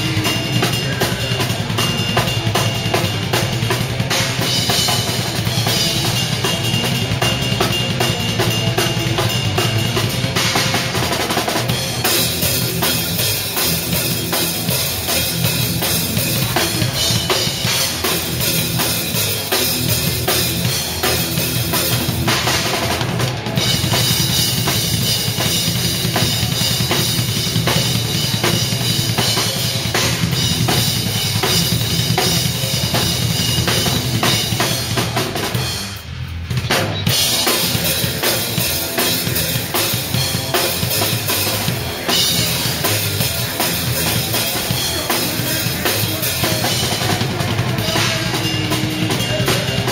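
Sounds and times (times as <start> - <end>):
drum kit played fast: 0.0 - 49.9
live band playing: 0.0 - 49.9.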